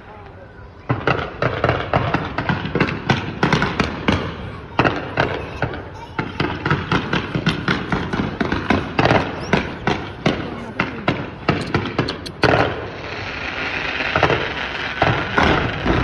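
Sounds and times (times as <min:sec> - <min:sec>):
fireworks bangs and pops: 0:00.8 - 0:16.0.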